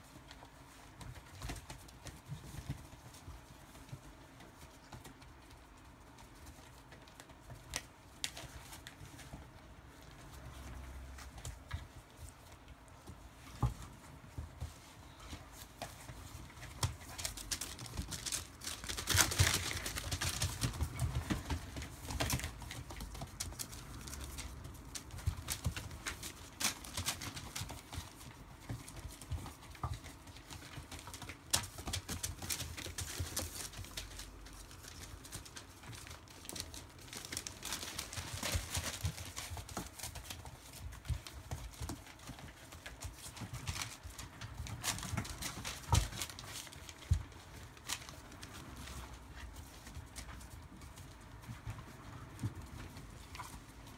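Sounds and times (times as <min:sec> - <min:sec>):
puppy paws pattering: 0:00.0 - 0:53.9.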